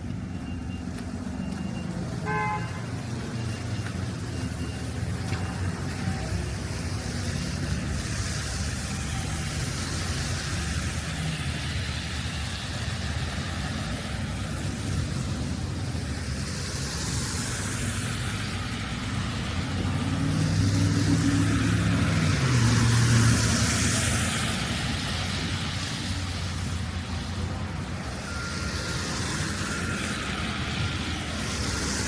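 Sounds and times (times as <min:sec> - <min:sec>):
low traffic rumble: 0:00.0 - 0:32.0
vehicle passing: 0:00.0 - 0:32.0.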